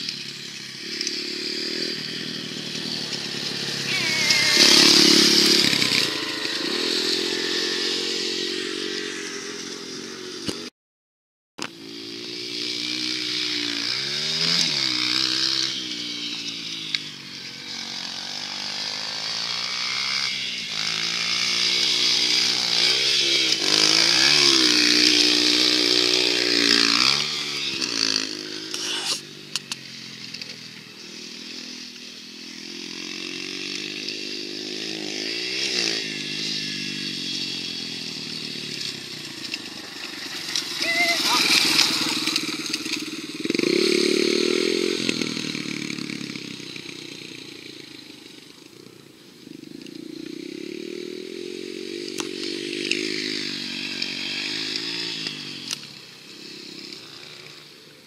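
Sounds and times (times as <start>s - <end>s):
dirt bike engine revving: 0.0s - 10.7s, 11.7s - 58.0s.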